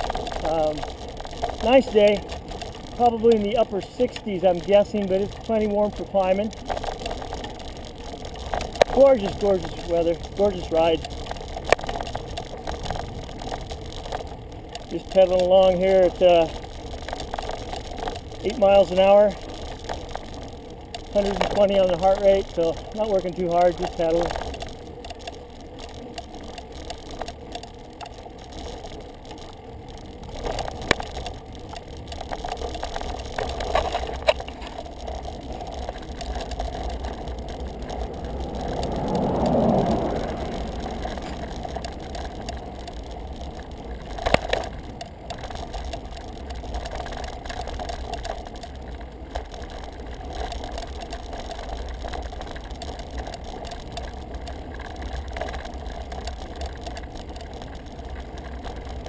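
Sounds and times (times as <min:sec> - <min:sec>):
bike clicks and rattles: 0:00.0 - 0:59.0
tyre noise on asphalt: 0:00.0 - 0:59.0
wind rumble on microphone: 0:00.0 - 0:59.0.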